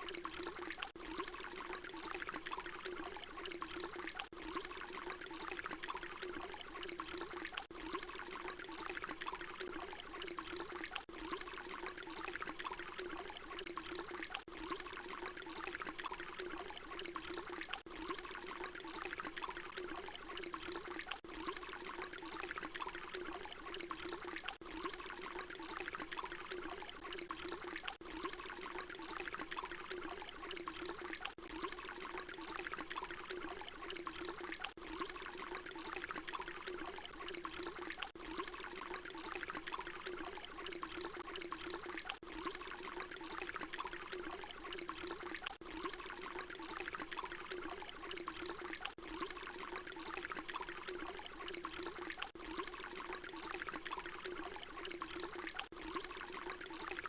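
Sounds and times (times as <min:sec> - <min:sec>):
water pouring: 0:00.0 - 0:57.0.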